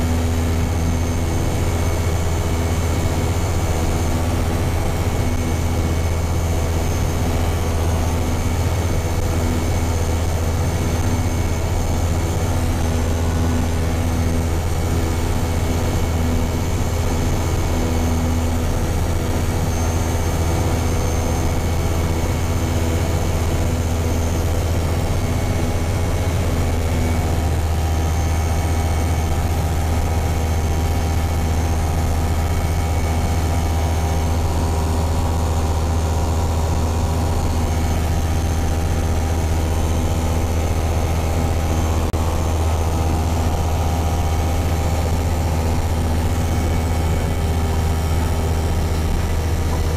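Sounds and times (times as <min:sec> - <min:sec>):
light airplane engine droning: 0:00.0 - 0:49.9.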